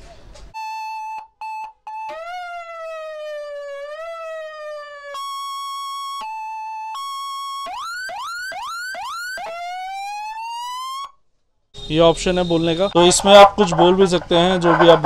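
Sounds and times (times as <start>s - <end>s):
electronic siren wailing: 0.6s - 11.2s, 11.8s - 15.0s.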